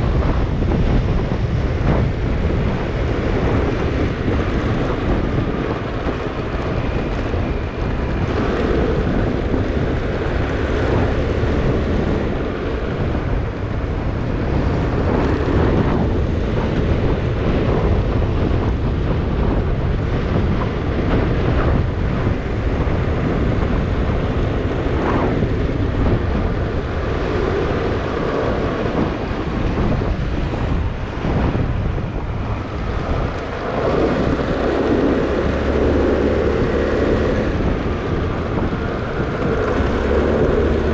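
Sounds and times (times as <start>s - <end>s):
motorbike engine: 0.0s - 40.9s
road noise: 0.0s - 40.9s
wind buffeting microphone: 0.0s - 40.9s.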